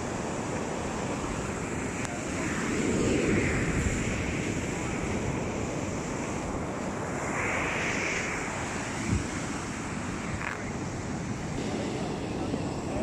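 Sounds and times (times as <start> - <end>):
sea waves washing on beach: 0.0 - 13.0
wind buffeting microphone: 0.0 - 13.0.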